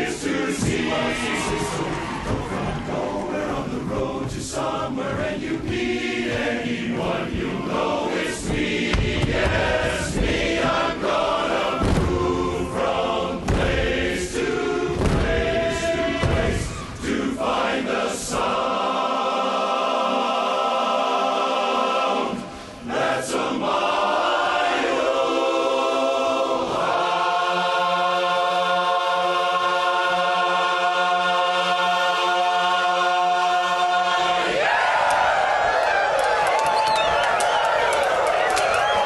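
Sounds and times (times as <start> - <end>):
men's chorus singing a cappella: 0.0 - 35.0.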